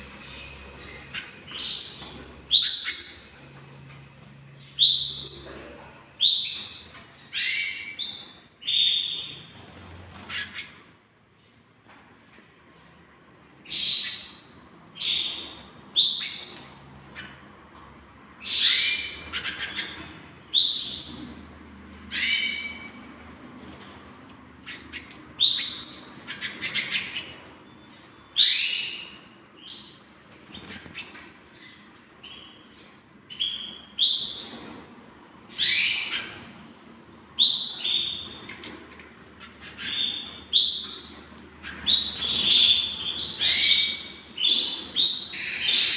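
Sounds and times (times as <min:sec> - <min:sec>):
canaries chirping: 0:00.0 - 0:12.0, 0:12.8 - 0:45.9.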